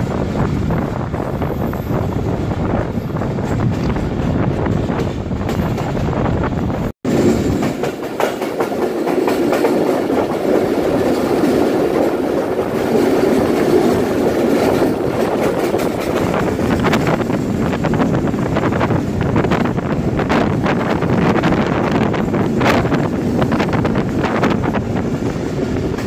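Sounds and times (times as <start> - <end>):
clickety-clack over track: 0.0 - 26.0
train wheels rumbling on rails: 0.0 - 26.0.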